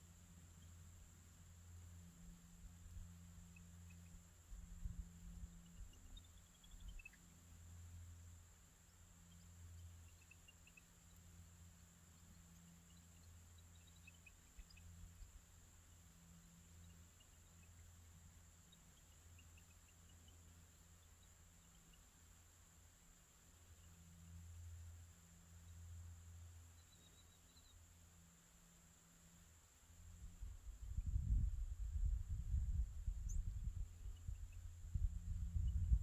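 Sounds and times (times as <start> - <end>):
low steady rumble: 0.0 - 36.0
small birds chirping: 0.0 - 36.0.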